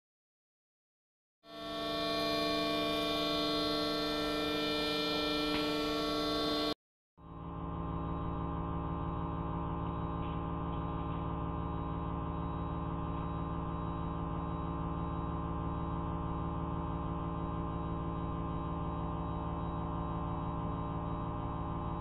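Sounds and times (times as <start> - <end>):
low machine hum: 1.6 - 22.0.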